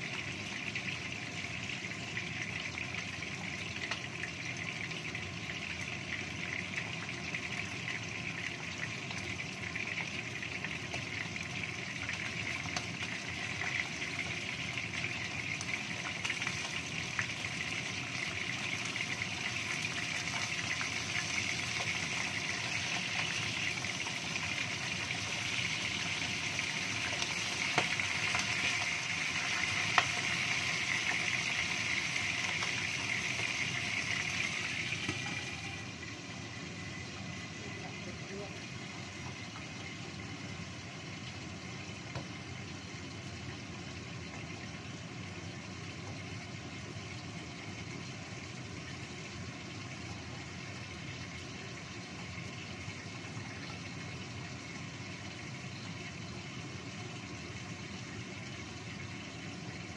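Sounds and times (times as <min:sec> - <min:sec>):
food sizzling in hot oil: 0:00.0 - 0:59.9.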